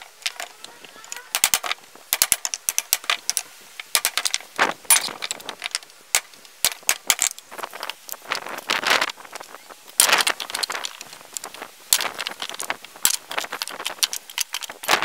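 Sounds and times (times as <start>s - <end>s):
wooden boards knocking together: 0.0s - 8.0s, 10.0s - 15.0s
scraping rustle: 0.0s - 15.0s.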